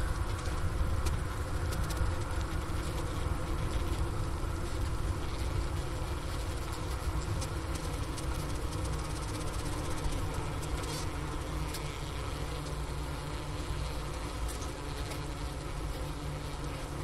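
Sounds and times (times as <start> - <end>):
bee colony humming: 0.0 - 17.0.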